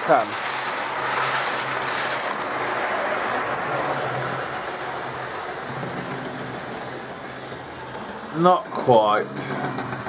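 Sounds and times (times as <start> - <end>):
wheels rolling over track: 0.0 - 10.0.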